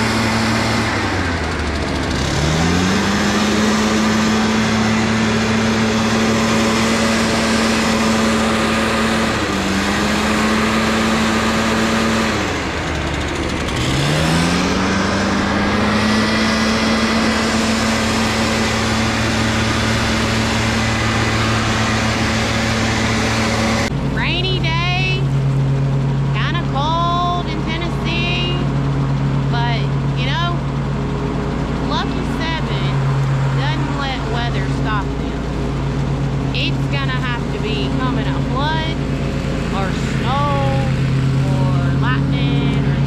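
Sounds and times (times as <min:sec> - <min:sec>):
engine revving: 0:00.0 - 0:43.0.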